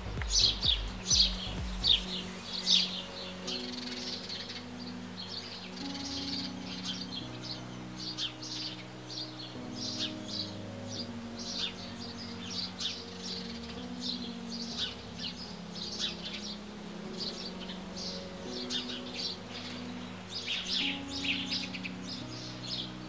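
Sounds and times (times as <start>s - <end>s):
low sustained tones: 0.0s - 23.0s
small birds chirping: 0.0s - 23.0s.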